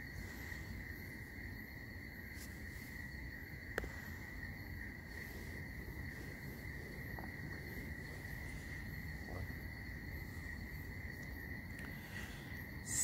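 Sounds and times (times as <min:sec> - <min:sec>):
crickets trilling: 0:00.0 - 0:13.0
low background noise: 0:00.0 - 0:13.0.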